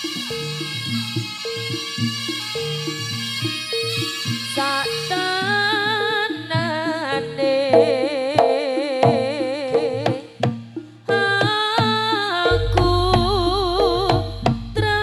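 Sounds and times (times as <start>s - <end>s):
drum strokes: 0.0s - 15.0s
gamelan lead melody with vibrato: 0.0s - 15.0s.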